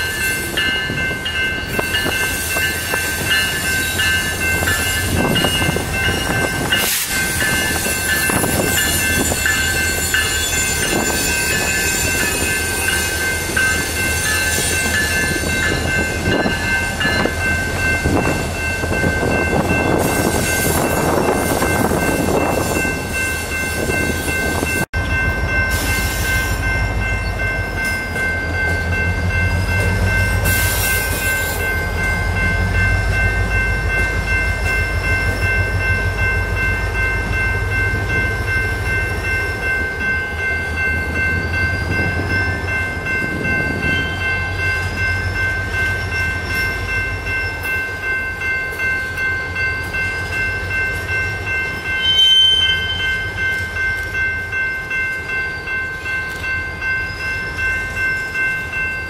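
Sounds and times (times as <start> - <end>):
freight train cars rumbling: 0.0 - 59.0
wheels whining on rails: 0.0 - 59.0.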